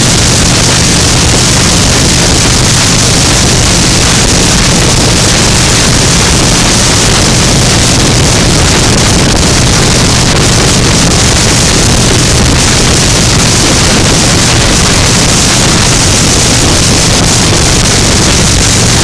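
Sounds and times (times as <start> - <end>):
motorcycle engine drone: 0.0 - 19.0
wind rush on microphone: 0.0 - 19.0.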